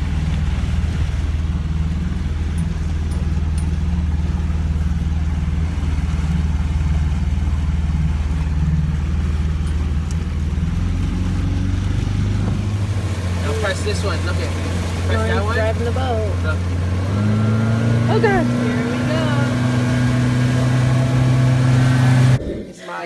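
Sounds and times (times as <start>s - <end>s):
motorboat engine humming: 0.0s - 22.6s.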